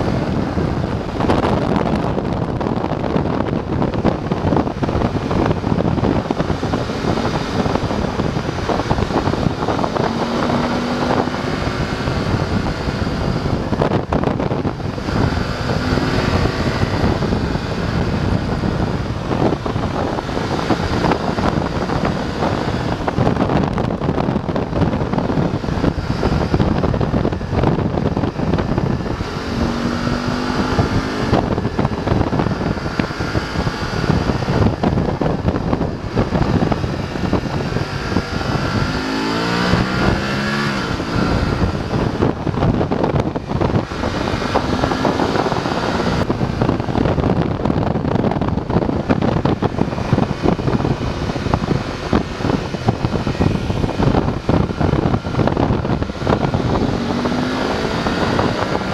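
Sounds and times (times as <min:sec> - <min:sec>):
motorcycle engine accelerating: 0:00.0 - 0:58.9
wind rush over microphone: 0:00.0 - 0:58.9.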